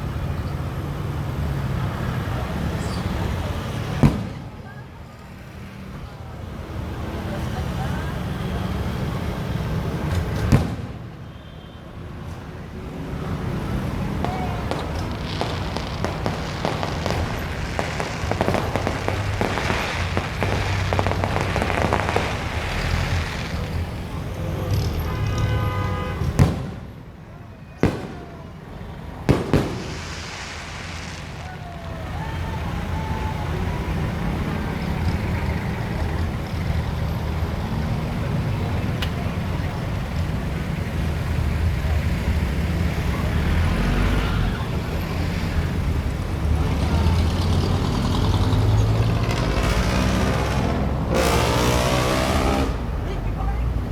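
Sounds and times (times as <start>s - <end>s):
fireworks crackling: 0.0s - 11.3s, 12.0s - 43.8s, 44.4s - 53.8s
murmur of voices: 0.0s - 53.9s.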